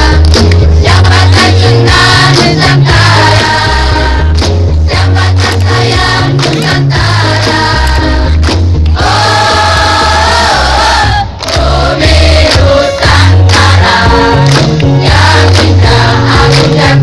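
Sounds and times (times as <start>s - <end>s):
amplified accompaniment with heavy bass: 0.0s - 17.0s
choir singing: 0.8s - 4.3s, 4.9s - 8.3s, 9.0s - 17.0s.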